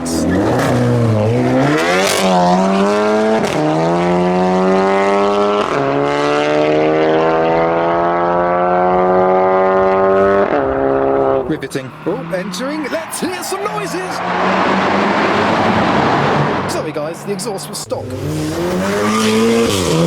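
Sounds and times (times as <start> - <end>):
exhaust cracks: 0.0 - 4.6, 8.3 - 20.0
car engine accelerating: 0.0 - 20.0.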